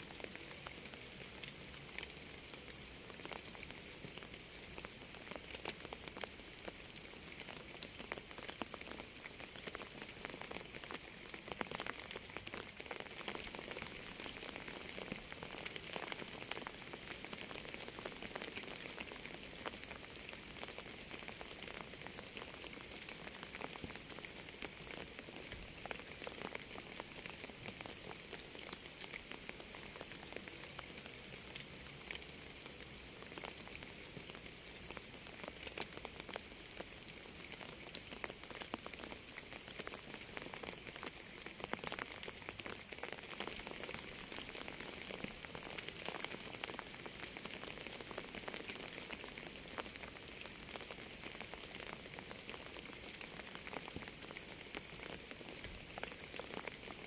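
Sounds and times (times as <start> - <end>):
steady rain hiss: 0.0 - 57.0
raindrops ticking: 0.2 - 57.0.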